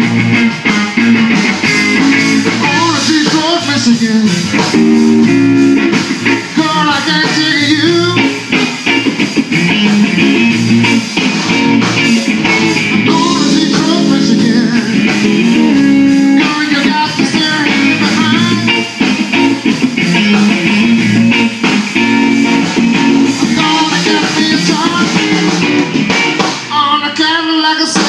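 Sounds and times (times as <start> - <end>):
electric guitar lead with bends: 0.0 - 26.7
bass guitar: 0.0 - 28.0
drums: 0.0 - 28.0.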